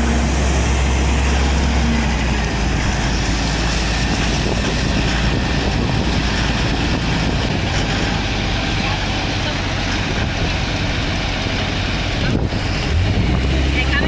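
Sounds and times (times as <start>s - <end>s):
heavy truck engine running: 0.0s - 14.0s.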